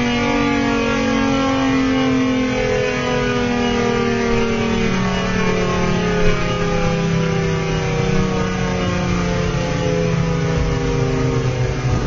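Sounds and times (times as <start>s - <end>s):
tornado siren winding down: 0.0s - 12.0s.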